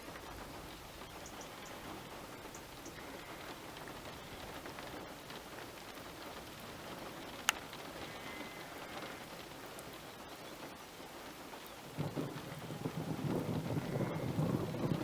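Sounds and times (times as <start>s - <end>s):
light rain falling: 0.0s - 15.0s
raindrops ticking: 0.0s - 15.0s.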